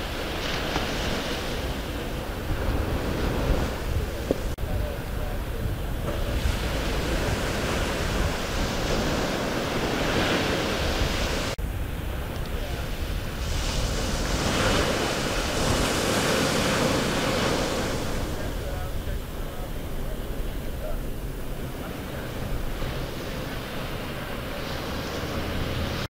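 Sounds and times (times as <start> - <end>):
surf washing onto beach: 0.0 - 26.0
wind buffeting microphone: 0.0 - 26.0.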